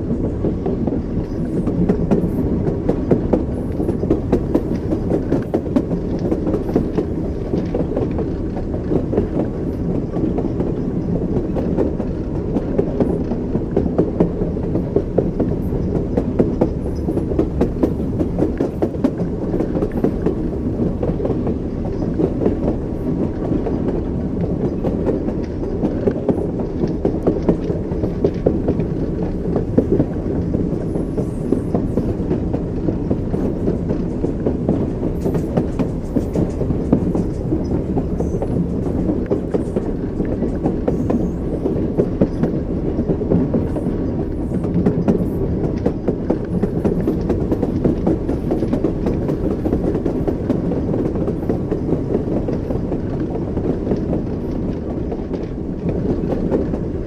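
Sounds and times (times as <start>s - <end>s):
train wheels rumbling on rails: 0.0s - 57.0s
wheels clicking and knocking: 0.0s - 57.0s.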